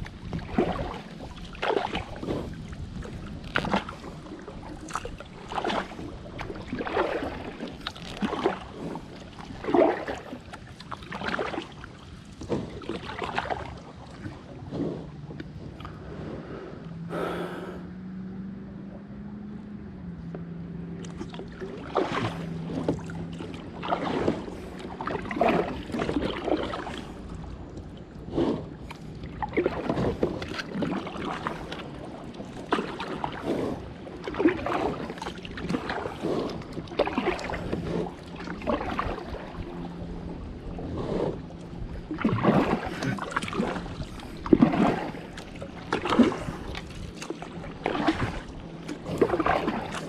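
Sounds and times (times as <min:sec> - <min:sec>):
kayak paddle splashing in water: 0:00.0 - 0:17.8, 0:20.9 - 0:50.0
low steady hum: 0:00.0 - 0:50.0.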